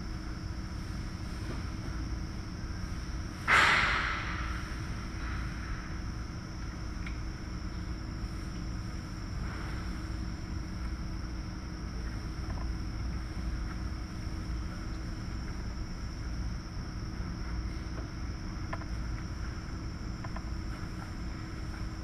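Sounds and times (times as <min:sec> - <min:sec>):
faint high whine: 0:00.0 - 0:22.0
low mechanical drone: 0:00.0 - 0:22.0.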